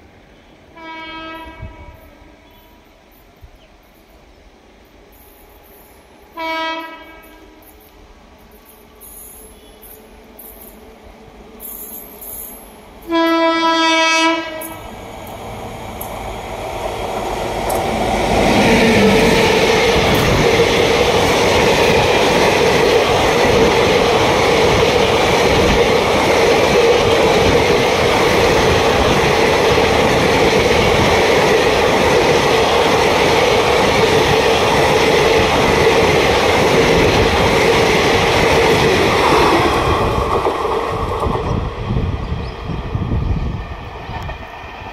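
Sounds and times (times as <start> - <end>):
train wheels rumbling on rails: 7.1 - 44.9.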